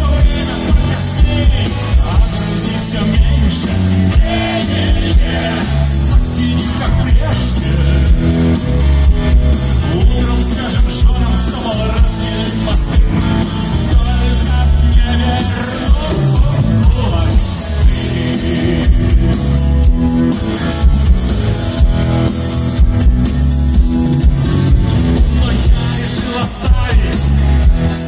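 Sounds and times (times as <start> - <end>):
bass guitar: 0.0 - 28.0
drums: 0.0 - 28.0
electric guitars: 0.0 - 28.0.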